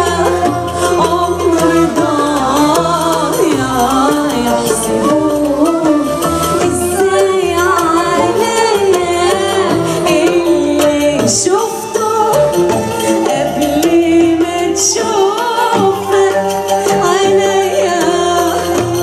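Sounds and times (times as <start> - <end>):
live band music: 0.0 - 19.0
person singing: 0.0 - 19.0.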